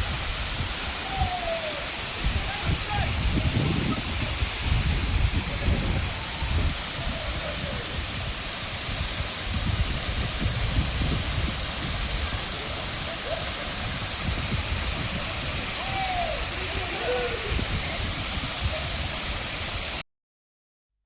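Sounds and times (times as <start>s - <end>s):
waterfall water falling: 0.0s - 20.0s.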